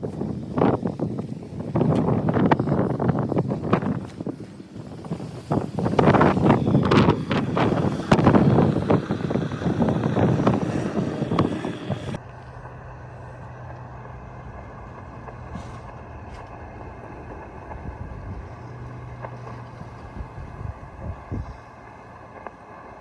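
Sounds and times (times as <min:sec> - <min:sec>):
wind buffeting microphone: 0:00.0 - 0:22.8.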